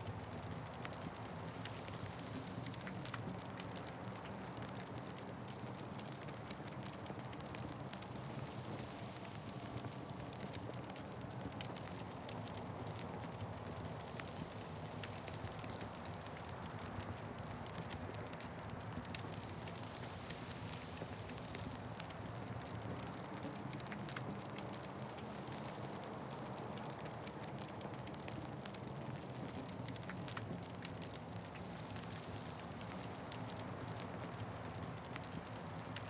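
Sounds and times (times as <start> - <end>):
wood fire crackling: 0.1 - 36.0.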